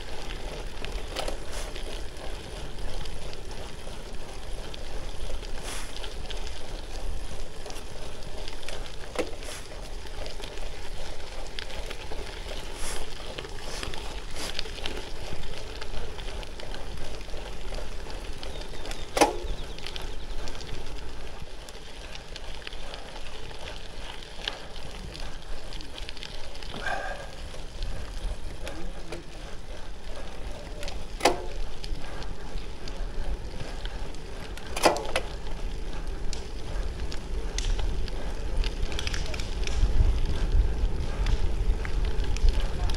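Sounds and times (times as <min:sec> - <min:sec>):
bike tyres crunching on gravel: 0:00.0 - 0:42.9.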